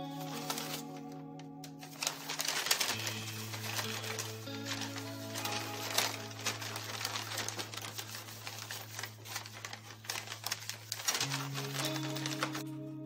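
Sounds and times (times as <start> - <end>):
paper bags crinkling: 0.0 - 12.8
soft background music: 0.0 - 13.0.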